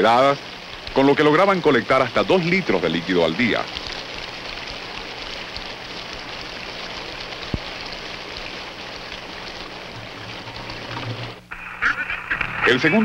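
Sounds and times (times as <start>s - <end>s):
hiss of falling water: 0.0s - 13.0s.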